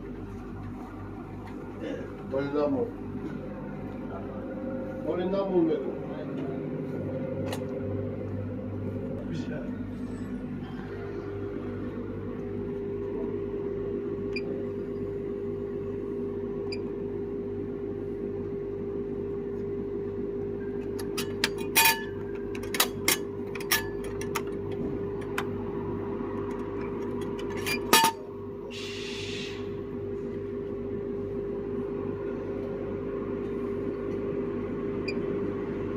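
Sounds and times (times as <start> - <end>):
mechanical hum: 0.0 - 35.9.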